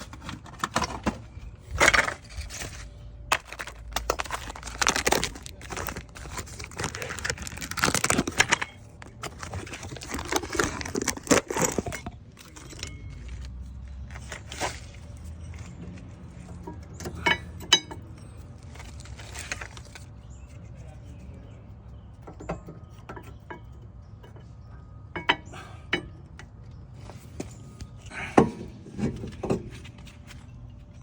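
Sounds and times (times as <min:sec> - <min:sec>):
metal tools clinking and scraping: 0:00.0 - 0:31.0.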